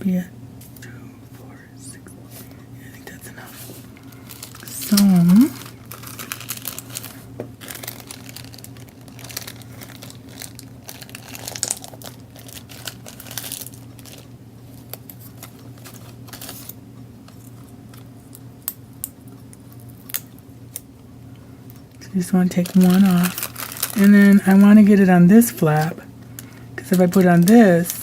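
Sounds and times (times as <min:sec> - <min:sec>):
steady low hum: 0:00.0 - 0:28.0
cellophane and paper crinkling: 0:02.3 - 0:18.5, 0:21.6 - 0:28.0.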